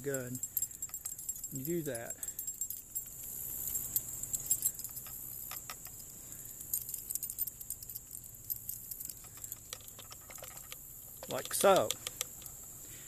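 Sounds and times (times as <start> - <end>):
pick on chain rattling: 0.0 - 12.8.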